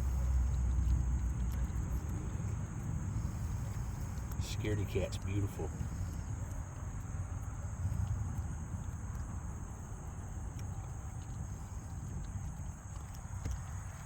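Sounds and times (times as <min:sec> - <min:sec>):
continuous low rumble: 0:00.0 - 0:14.0
insects chirring: 0:00.0 - 0:14.0.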